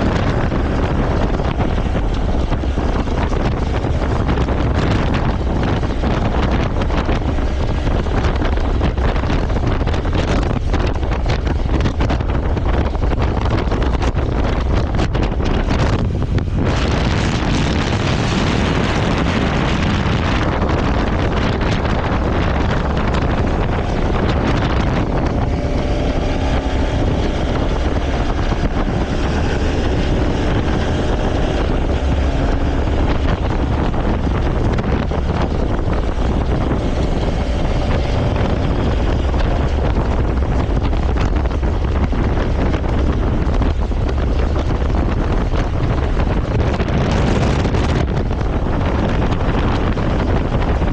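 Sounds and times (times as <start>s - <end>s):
motorcycle engine running: 0.0s - 50.9s
wind buffeting microphone: 0.0s - 50.9s.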